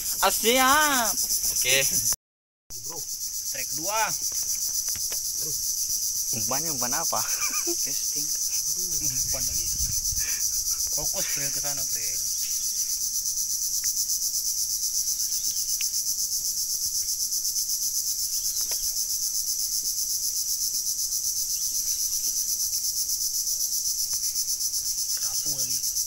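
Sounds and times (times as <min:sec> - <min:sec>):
shrill insect drone: 0:00.0 - 0:26.0.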